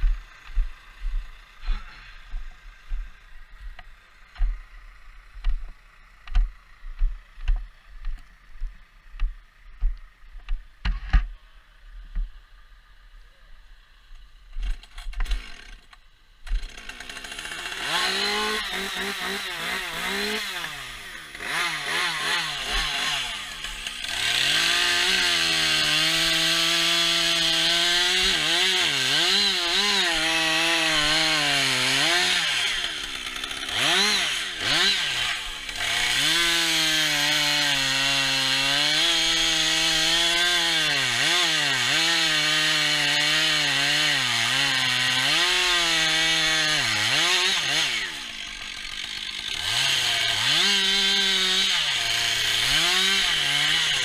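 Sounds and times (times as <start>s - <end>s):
chainsaw cutting wood: 0.0s - 11.4s, 14.4s - 54.0s.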